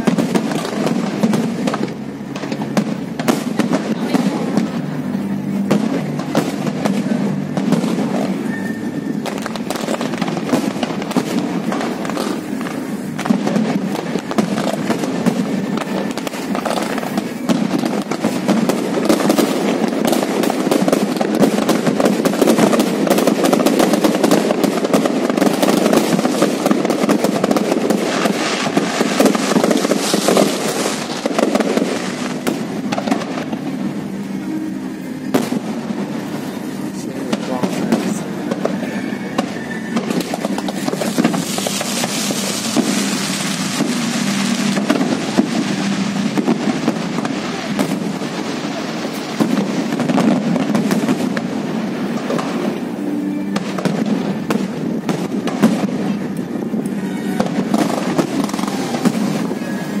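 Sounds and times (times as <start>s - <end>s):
fireworks bursting and crackling: 0.0s - 60.0s.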